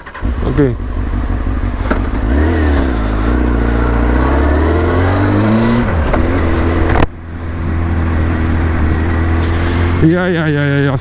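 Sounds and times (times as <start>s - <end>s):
motorcycle engine accelerating: 0.0s - 10.9s.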